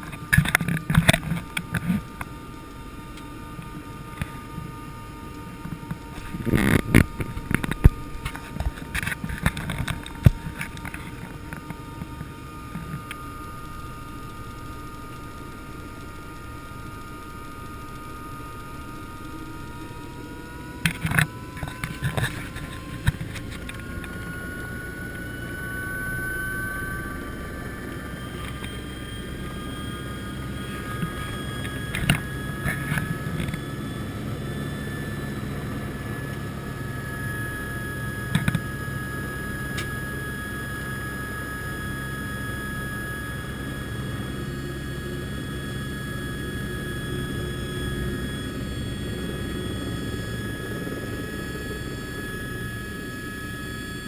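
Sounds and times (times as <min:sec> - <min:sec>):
helicopter engine hum: 0:00.0 - 0:54.0
rising turbine whine: 0:00.0 - 0:54.0.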